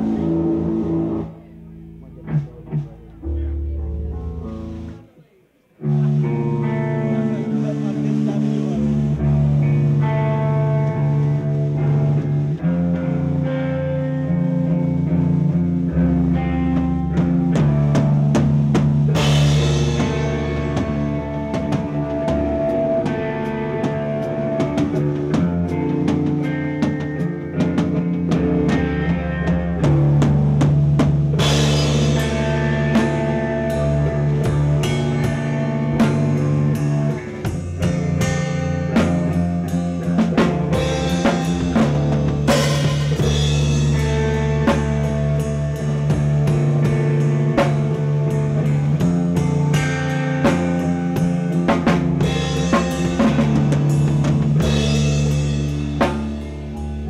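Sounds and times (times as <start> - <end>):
live band playing: 0.0 - 5.1, 5.8 - 57.0.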